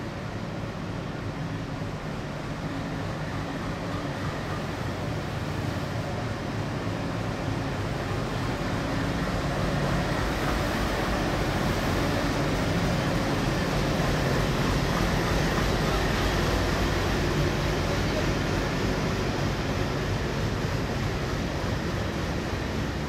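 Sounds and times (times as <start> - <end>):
diesel locomotive engine hum: 0.0 - 23.0.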